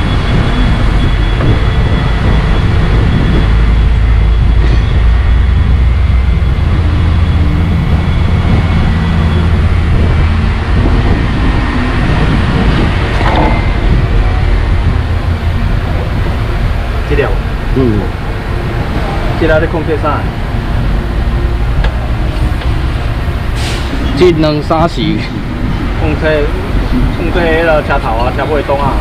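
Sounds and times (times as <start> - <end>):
diesel truck engine rumbling: 0.0 - 29.0.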